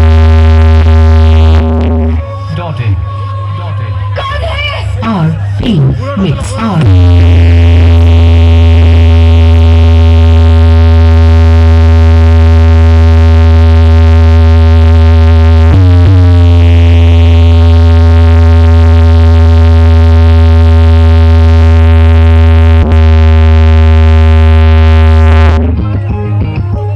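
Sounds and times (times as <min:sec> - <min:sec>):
electronic music with heavy bass: 0:00.0 - 0:02.7, 0:04.2 - 0:26.9.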